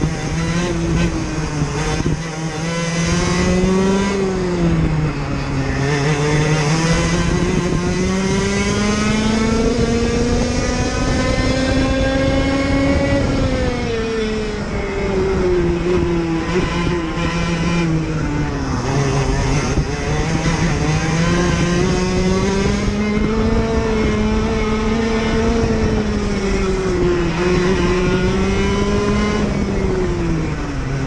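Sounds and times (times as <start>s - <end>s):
kart engine revving: 0.0s - 31.0s
wind rush over microphone: 0.0s - 31.0s.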